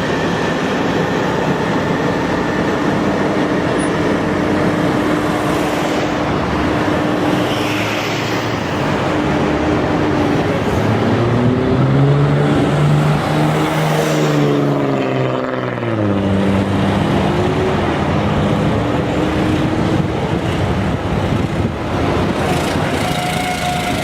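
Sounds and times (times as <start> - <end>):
heavy vehicle engine under load: 0.0 - 24.0.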